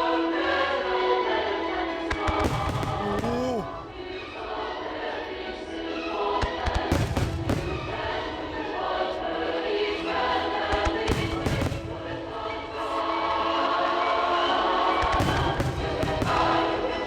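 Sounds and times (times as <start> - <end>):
choral music over loudspeakers: 0.0 - 17.0.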